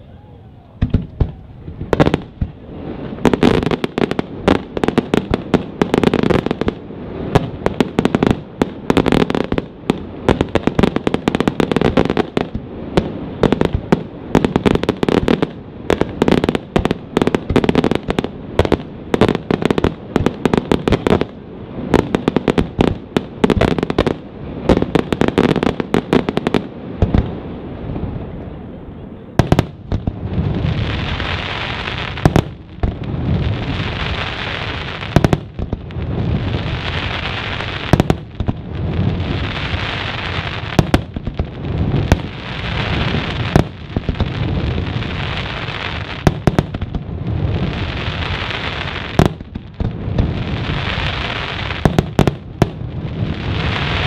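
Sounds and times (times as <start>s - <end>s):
fireworks bursts and bangs: 0.7s - 54.0s.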